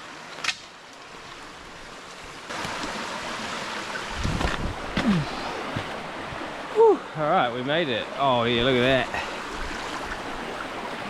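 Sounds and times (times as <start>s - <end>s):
rushing stream water: 0.0s - 11.0s.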